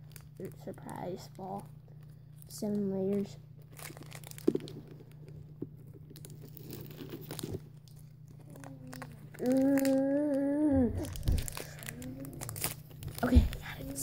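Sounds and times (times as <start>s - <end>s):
foil wrapper crinkling: 0.0s - 14.0s.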